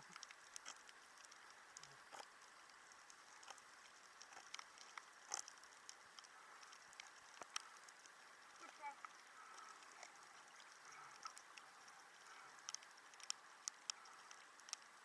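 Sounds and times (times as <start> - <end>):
low underwater hiss: 0.0 - 15.0
snapping shrimp clicks: 0.1 - 8.2, 9.0 - 14.9.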